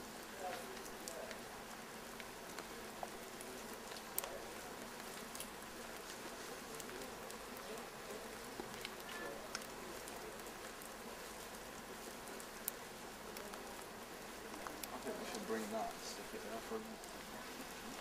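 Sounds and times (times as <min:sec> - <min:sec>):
light rain pattering: 0:00.0 - 0:18.0
raindrops ticking close by: 0:00.0 - 0:18.0.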